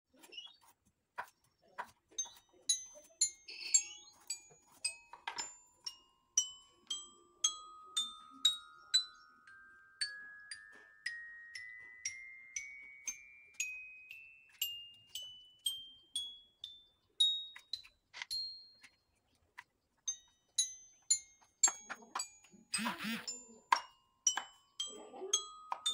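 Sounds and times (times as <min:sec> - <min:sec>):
glockenspiel-like plinks: 0:02.1 - 0:19.1, 0:20.1 - 0:25.9.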